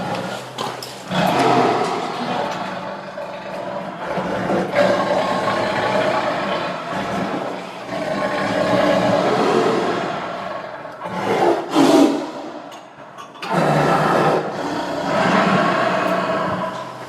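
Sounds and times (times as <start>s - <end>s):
tiger growling: 0.0s - 12.7s, 13.4s - 17.0s
tiger roaring: 0.0s - 12.7s, 13.4s - 17.0s.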